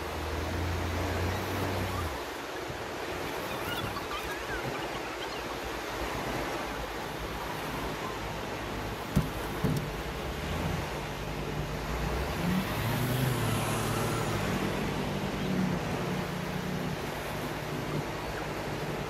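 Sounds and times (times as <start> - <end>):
waves breaking on beach: 0.0 - 19.0.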